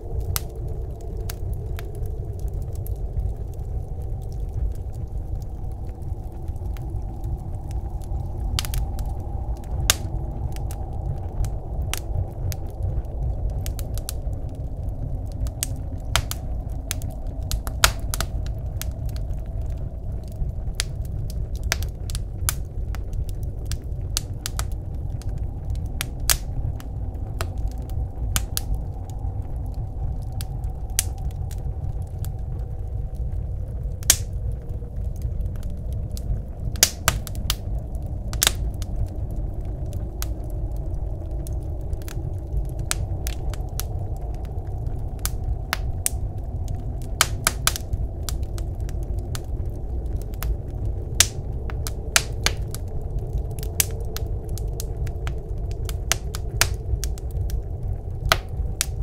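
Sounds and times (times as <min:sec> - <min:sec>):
blizzard wind rumble: 0:00.0 - 0:59.0
wood fire crackling and popping: 0:00.0 - 0:59.0.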